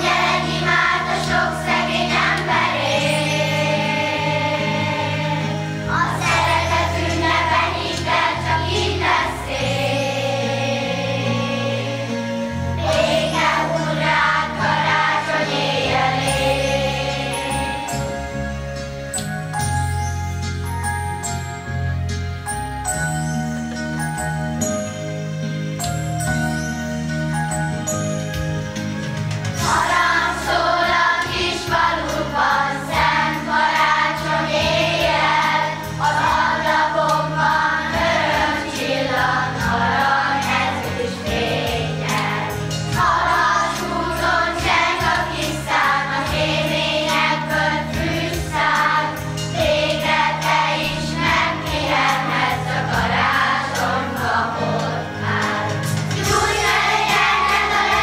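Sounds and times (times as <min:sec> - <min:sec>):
children's choir singing: 0:00.0 - 0:18.3, 0:29.6 - 0:58.0
sustained instrumental accompaniment: 0:00.0 - 0:58.0.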